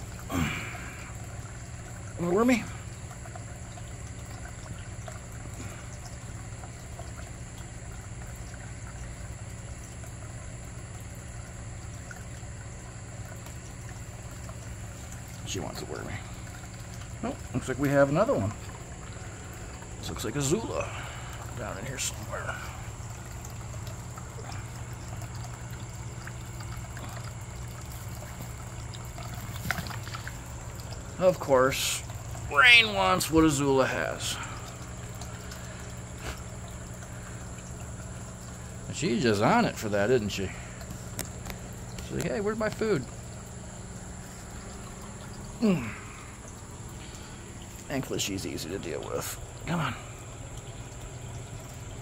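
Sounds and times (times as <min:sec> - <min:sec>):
low even hum: 0:00.0 - 0:52.0
running water trickling: 0:00.0 - 0:52.0.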